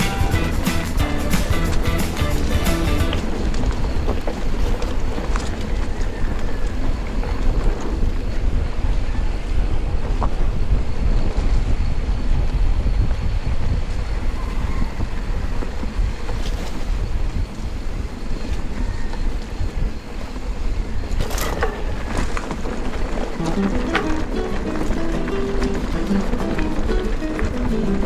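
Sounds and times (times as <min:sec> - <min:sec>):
tyres rumbling on trail: 0:00.0 - 0:12.8, 0:13.7 - 0:28.0
wind buffeting microphone: 0:00.0 - 0:28.0.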